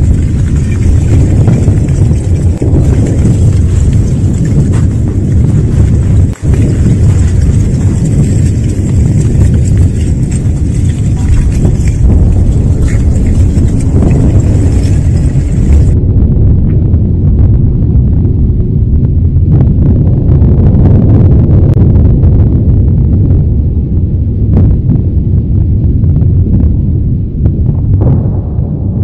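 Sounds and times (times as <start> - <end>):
loud continuous low rumble: 0.0 - 29.0.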